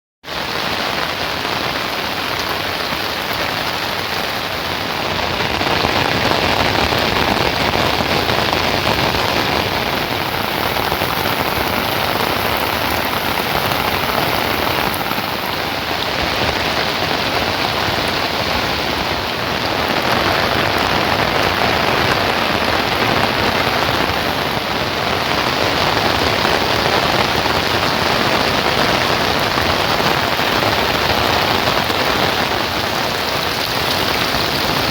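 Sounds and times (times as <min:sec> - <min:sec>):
heavy rain: 0:00.2 - 0:34.9.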